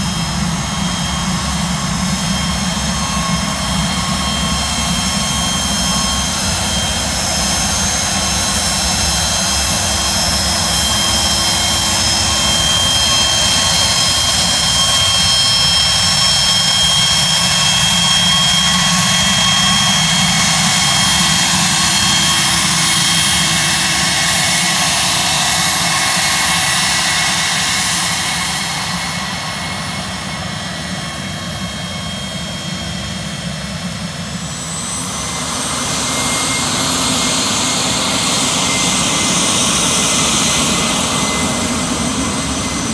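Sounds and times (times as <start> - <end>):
jet engines whining while taxiing: 0.0 - 42.9.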